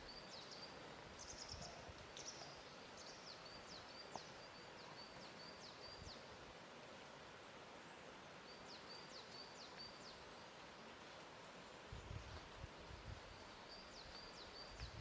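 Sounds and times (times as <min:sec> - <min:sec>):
faint steady hiss: 0:00.0 - 0:15.0
songbird chirping: 0:00.0 - 0:15.0.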